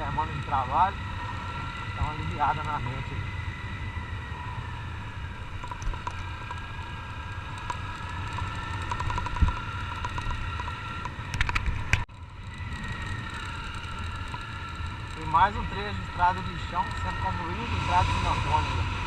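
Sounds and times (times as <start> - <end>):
motorcycle engine cruising: 0.0 - 19.0
wind rumble on microphone: 0.0 - 19.0.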